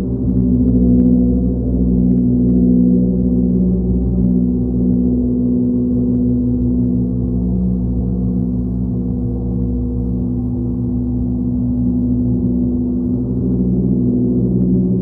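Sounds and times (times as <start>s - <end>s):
monochord drone: 0.0s - 15.0s.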